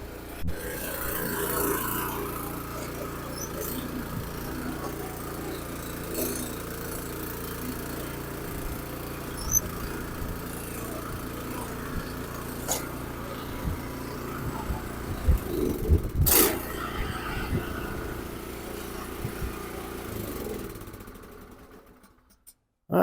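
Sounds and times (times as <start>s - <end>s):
tiller engine running: 0.0s - 22.3s.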